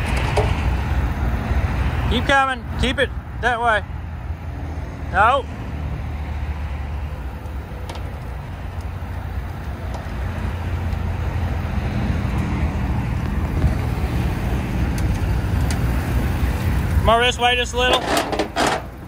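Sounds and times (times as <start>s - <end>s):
truck engine low rumble: 0.0s - 19.0s.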